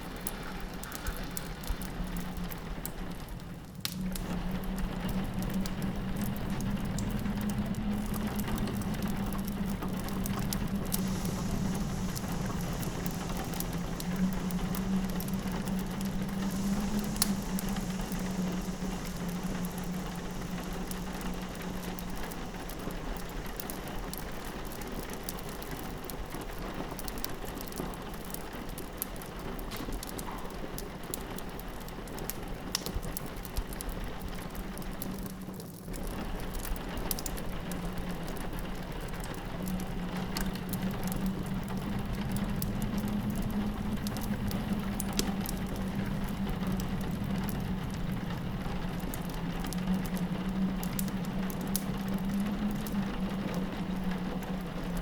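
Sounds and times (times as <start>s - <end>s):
fireplace crackling: 0.0s - 55.0s
low howl of wind: 0.0s - 55.0s
rain pattering on a window: 0.0s - 55.0s.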